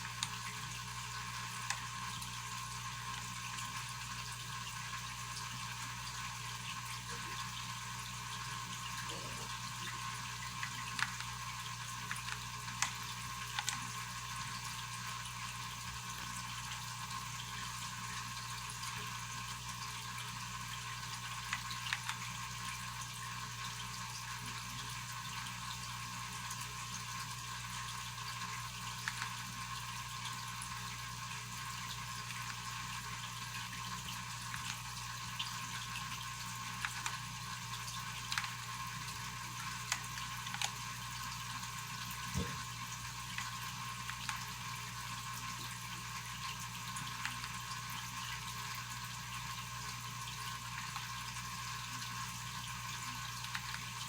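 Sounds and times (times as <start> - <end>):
background hiss and hum: 0.0 - 54.0.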